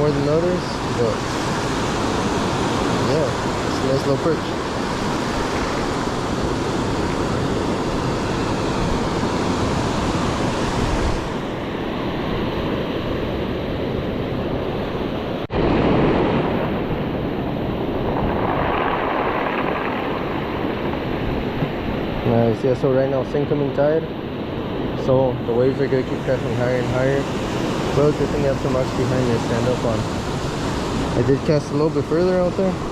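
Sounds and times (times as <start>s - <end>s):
ocean surf breaking on shore: 0.0s - 32.9s
wind buffeting microphone: 0.0s - 32.9s.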